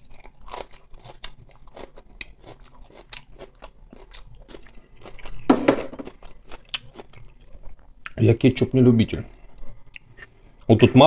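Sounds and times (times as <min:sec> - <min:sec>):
person chewing cabbage: 0:00.0 - 0:08.2, 0:09.3 - 0:10.7.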